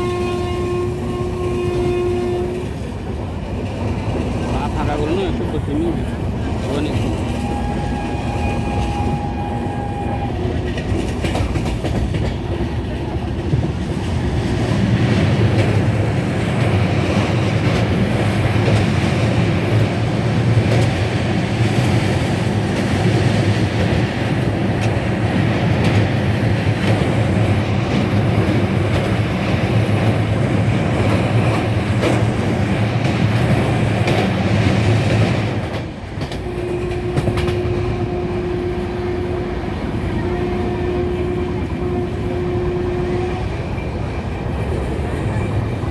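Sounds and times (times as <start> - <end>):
train rumble on bridge: 0.0 - 45.9
wheels clickety-clack on rails: 0.0 - 45.9.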